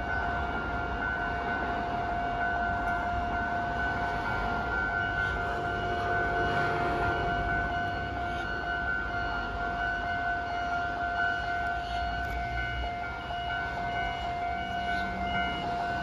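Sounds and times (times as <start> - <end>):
level-crossing electronic alarm: 0.0 - 16.0.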